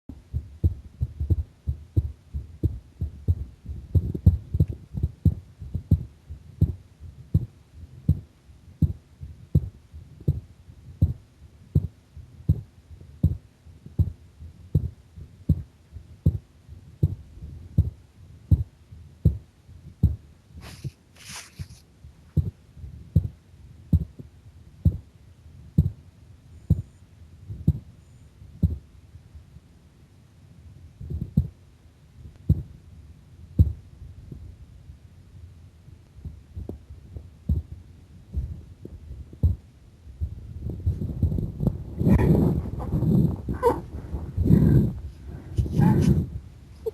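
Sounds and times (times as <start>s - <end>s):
heartbeat thumps: 0.1s - 21.0s, 22.0s - 25.1s, 25.7s - 26.0s, 26.6s - 27.9s, 28.5s - 28.9s, 31.0s - 31.6s, 32.2s - 32.8s, 33.5s - 34.6s, 36.2s - 46.9s.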